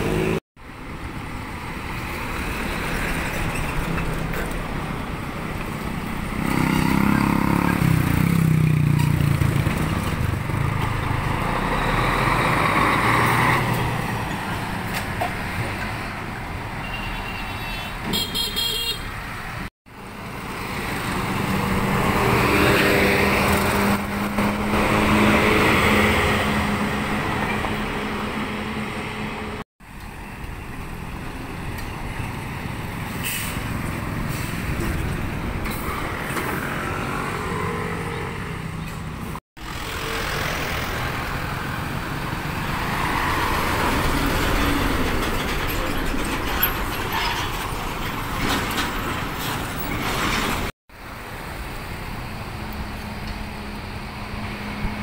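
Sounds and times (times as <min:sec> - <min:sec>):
heavy trucks passing: 0:00.0 - 0:55.0.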